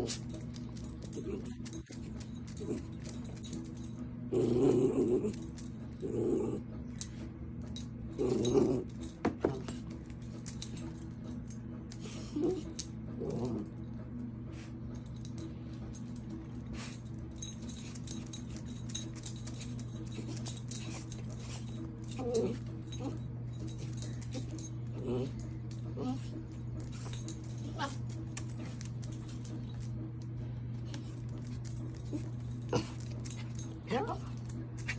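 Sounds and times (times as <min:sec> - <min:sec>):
collar tags jingling: 0:00.0 - 0:13.7, 0:15.0 - 0:34.9
steady low hum: 0:00.0 - 0:34.9.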